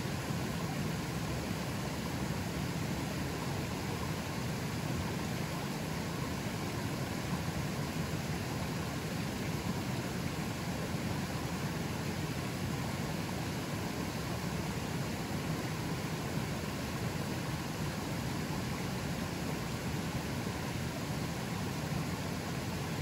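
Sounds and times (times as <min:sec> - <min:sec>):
river current rushing: 0:00.0 - 0:23.0.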